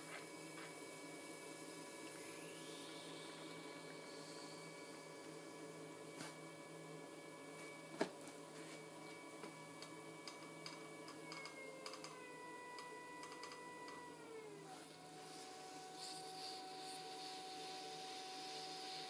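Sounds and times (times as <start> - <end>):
potter's wheel motor whining: 0.9 - 19.0.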